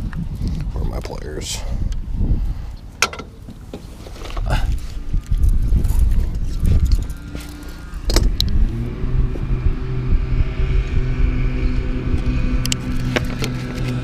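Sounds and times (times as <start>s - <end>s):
low rumbling: 0.0s - 14.0s
motor engine humming: 2.0s - 14.0s.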